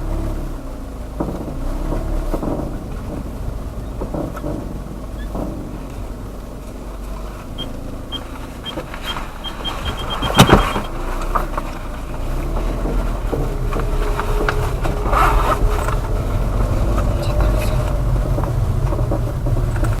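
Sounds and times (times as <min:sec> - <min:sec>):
low rumble of riding: 0:00.0 - 0:20.0
saddle creaking: 0:00.0 - 0:20.0.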